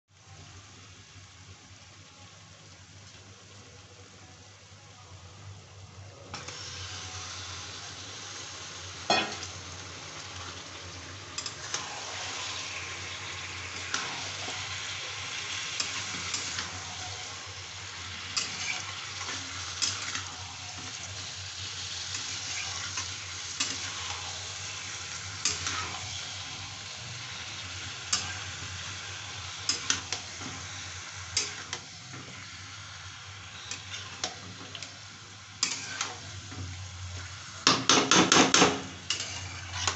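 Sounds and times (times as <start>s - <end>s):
chicken sizzling in hot oil: 0.1s - 39.9s.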